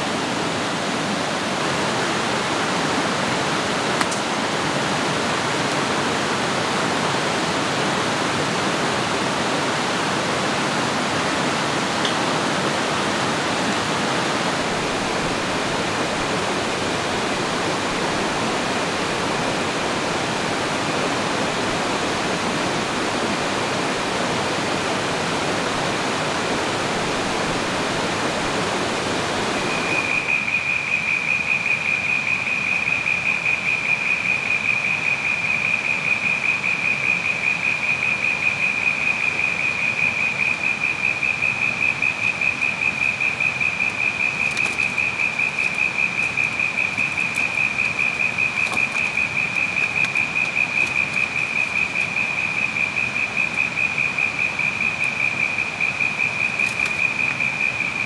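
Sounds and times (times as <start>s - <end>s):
mountain stream rushing over rocks: 0.0s - 58.0s.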